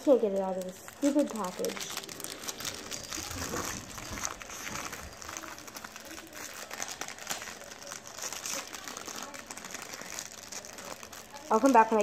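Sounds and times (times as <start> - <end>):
plastic package crinkling: 0.0 - 12.0.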